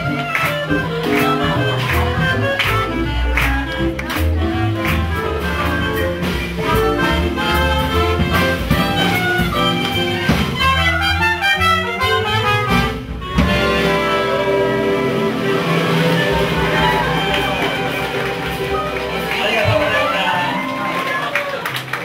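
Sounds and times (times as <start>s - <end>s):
bass and drum beat: 0.0s - 20.8s
horns: 0.0s - 22.0s
swing jazz band playing: 0.0s - 22.0s.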